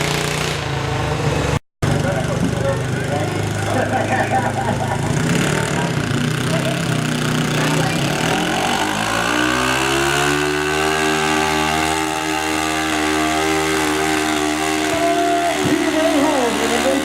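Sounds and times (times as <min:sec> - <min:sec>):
tractor engine revving: 0:00.0 - 0:17.0.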